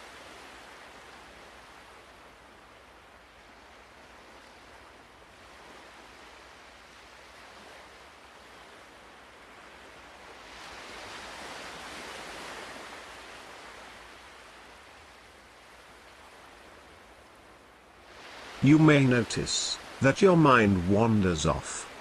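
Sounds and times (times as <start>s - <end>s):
ocean waves washing ashore: 0.0s - 22.0s.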